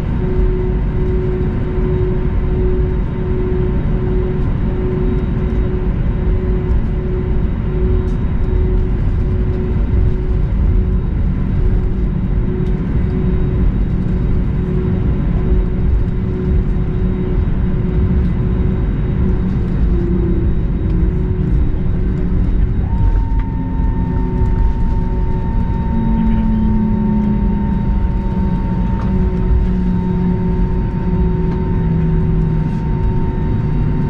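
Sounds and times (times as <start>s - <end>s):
airliner cabin rumble: 0.0s - 34.0s
faint pulsing hum: 0.0s - 34.0s.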